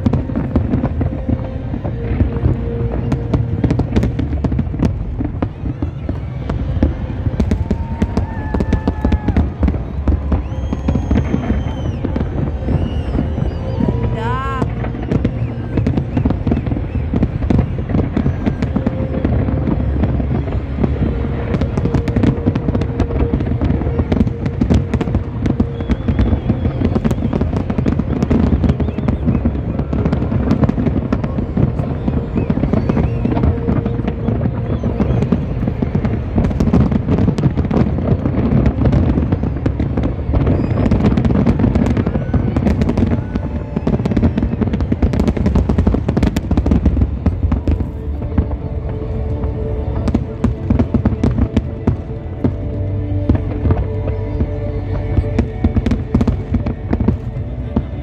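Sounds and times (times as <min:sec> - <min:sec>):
low firework booms: 0:00.0 - 0:52.6
fireworks crackling: 0:00.0 - 0:58.0.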